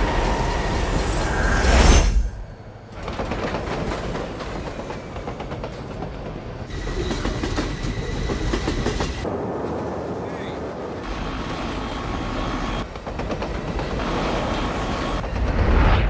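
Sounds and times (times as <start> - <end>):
subway wheels clattering: 2.4 - 15.8.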